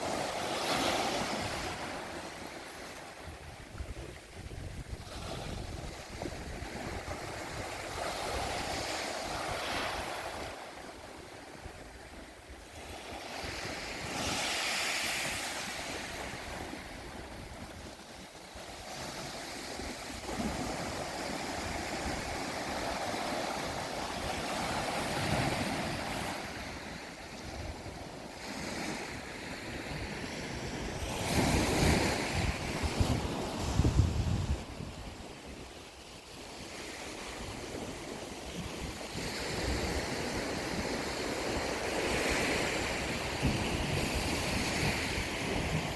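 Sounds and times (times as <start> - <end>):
wind buffeting microphone: 0.0 - 35.9, 36.6 - 45.9.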